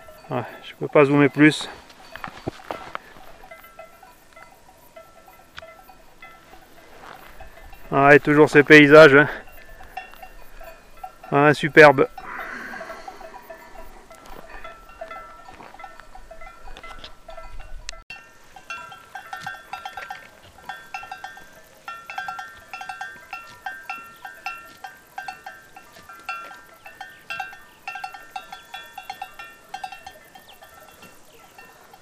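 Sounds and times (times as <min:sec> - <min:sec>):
livestock bells clanking: 0:00.0 - 0:32.0.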